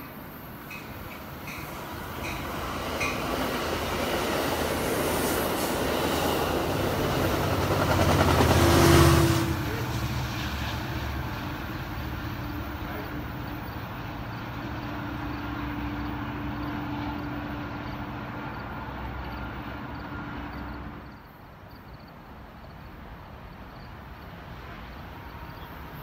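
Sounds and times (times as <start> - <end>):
distant train rumble: 0.0 - 26.0
train passing with loud rumble: 0.0 - 26.0.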